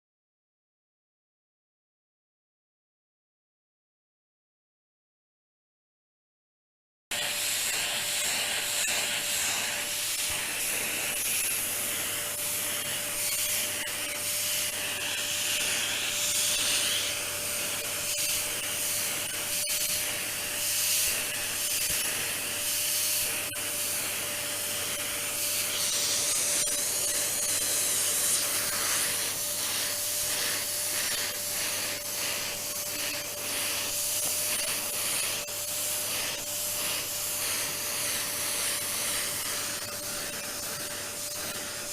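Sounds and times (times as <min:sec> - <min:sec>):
vacuum cleaner running: 0:07.1 - 0:41.9
vacuum nozzle rubbing surface: 0:07.1 - 0:41.9.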